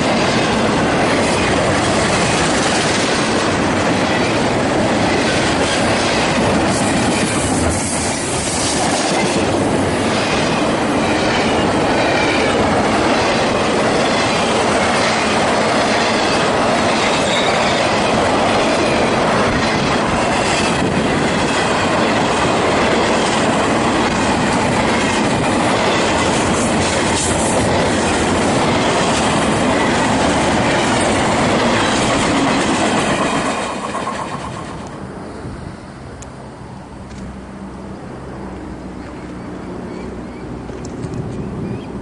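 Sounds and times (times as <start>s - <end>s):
clickety-clack over rail joints: 0.0s - 35.0s, 38.5s - 41.9s
train wheels roaring on rails: 0.0s - 42.0s.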